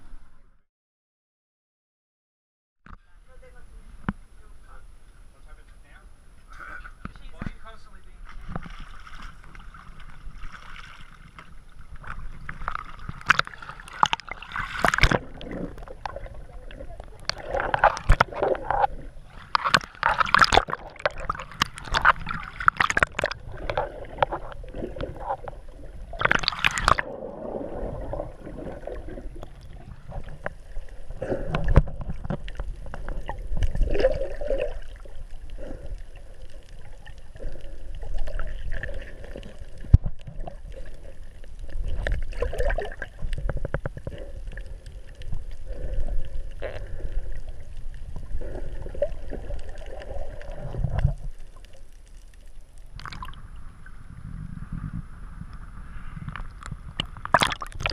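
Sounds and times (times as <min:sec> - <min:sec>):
water sloshing and gurgling: 0:06.9 - 0:57.9
water splashing: 0:07.2 - 0:54.8, 0:56.2 - 0:57.9.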